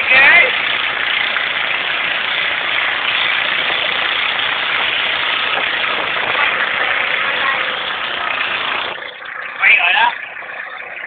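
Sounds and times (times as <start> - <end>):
motorboat engine running: 0.0 - 11.0
water rushing past hull: 0.0 - 11.0.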